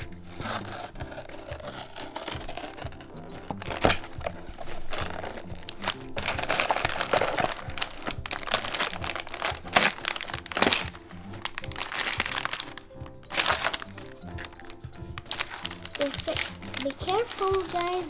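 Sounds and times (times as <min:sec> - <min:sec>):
background music: 0:00.0 - 0:18.0
packaging crinkling: 0:00.0 - 0:18.0.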